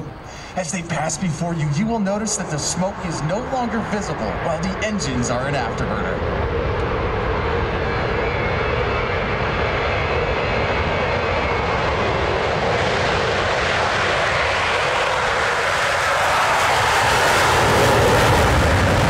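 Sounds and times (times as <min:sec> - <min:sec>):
jets taking off with afterburners: 0:00.0 - 0:19.0.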